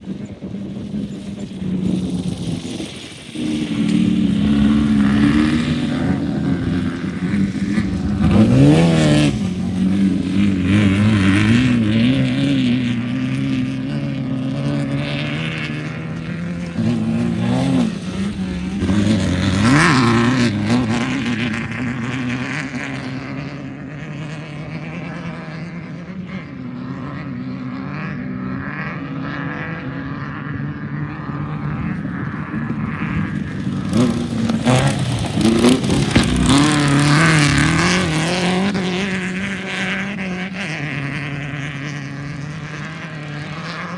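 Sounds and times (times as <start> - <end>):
race vehicle engine revving: 0.0 - 25.8, 32.4 - 43.9.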